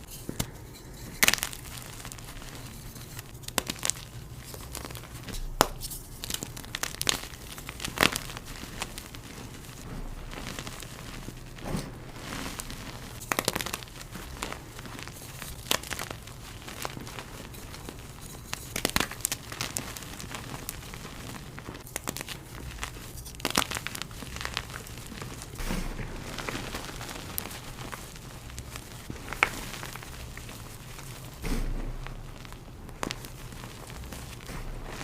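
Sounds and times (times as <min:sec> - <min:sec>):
chalk crunching and crumbling: 0:00.0 - 0:35.0.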